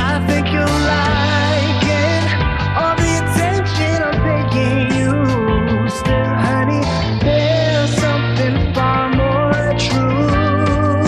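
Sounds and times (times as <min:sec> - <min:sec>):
pop-rock song with full band: 0:00.0 - 0:11.0.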